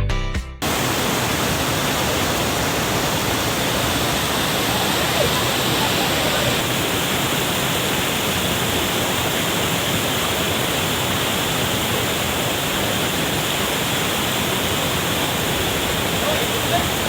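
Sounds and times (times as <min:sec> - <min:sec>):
stream rushing over rocks: 0:00.6 - 0:17.0.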